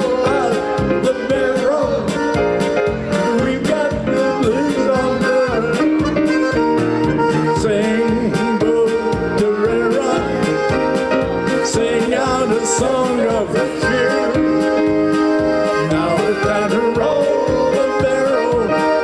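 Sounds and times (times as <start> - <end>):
accordion: 0.0 - 19.0
keyboard backing with steady beat: 0.0 - 19.0.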